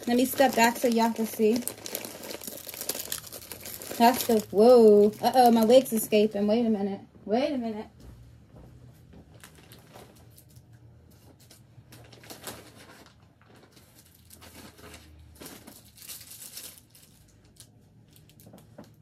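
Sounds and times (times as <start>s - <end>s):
packaging rustling and crinkling: 0.0s - 6.3s, 9.3s - 19.0s.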